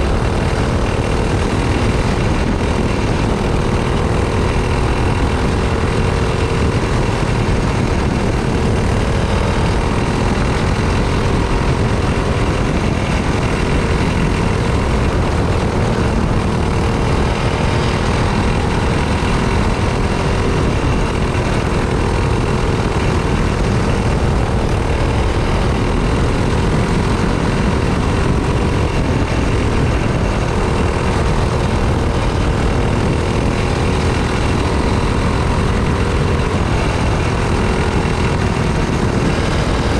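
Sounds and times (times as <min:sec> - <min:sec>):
kart engine running: 0:00.0 - 0:39.9
wind rumble on microphone: 0:00.0 - 0:39.9.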